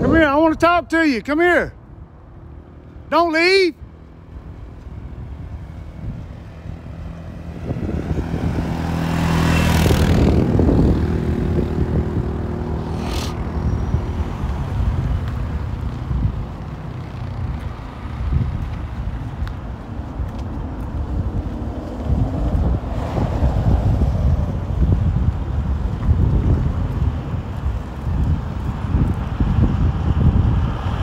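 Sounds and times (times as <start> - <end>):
vehicle passing by: 3.8 - 31.0.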